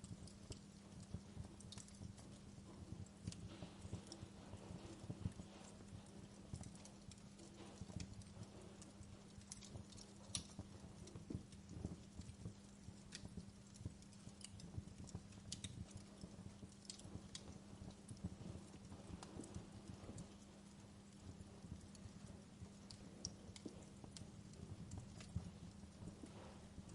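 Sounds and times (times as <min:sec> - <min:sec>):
steady low hum: 0:00.0 - 0:26.9
wood fire crackling: 0:00.0 - 0:26.9.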